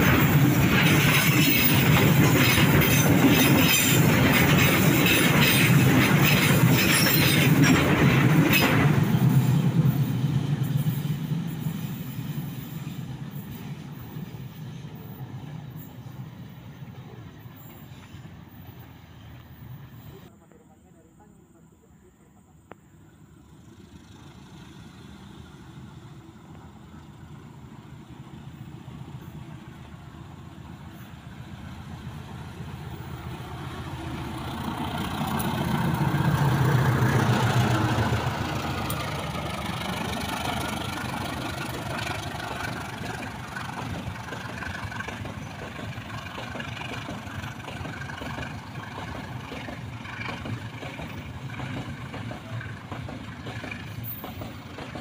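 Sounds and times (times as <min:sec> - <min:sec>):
train wheels rumbling on rail: 0:00.0 - 0:20.3, 0:23.3 - 0:55.0
diesel locomotive passing: 0:00.0 - 0:20.6, 0:22.3 - 0:55.0.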